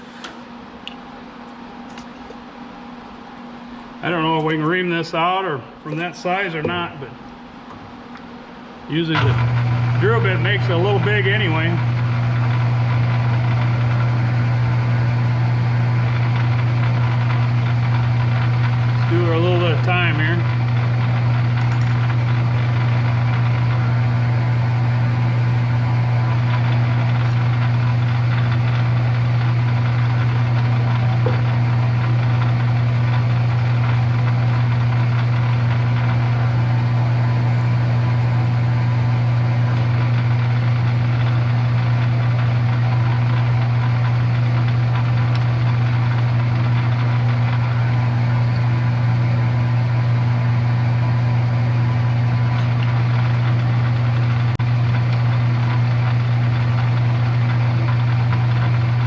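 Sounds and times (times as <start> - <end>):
lathe motor hum: 0.0 - 59.0.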